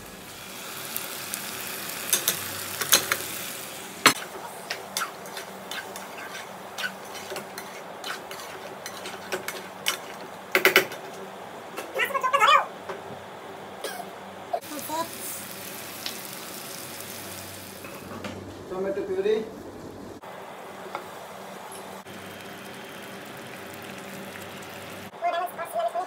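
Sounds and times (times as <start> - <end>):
frying sizzle: 0.0 - 11.8, 14.6 - 26.0.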